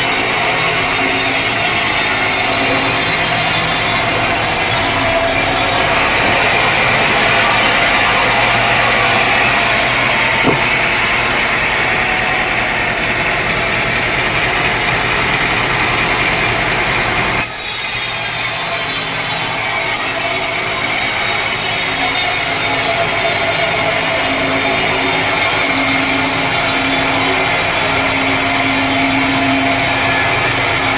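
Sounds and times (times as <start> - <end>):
saw cutting wood with high ring: 0.0 - 30.9
steady machine noise: 0.0 - 30.9.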